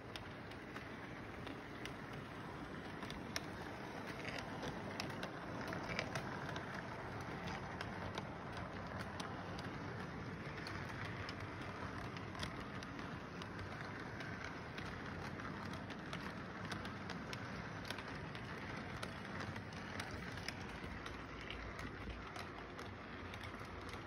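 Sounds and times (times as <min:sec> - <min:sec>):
toy train running: 0:00.0 - 0:24.0
wheels clicking over track joints: 0:00.0 - 0:24.0.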